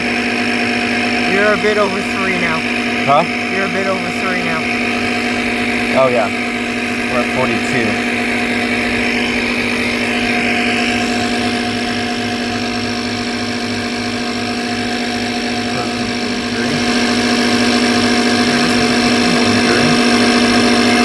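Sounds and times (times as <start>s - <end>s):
air compressor motor humming: 0.0s - 21.0s.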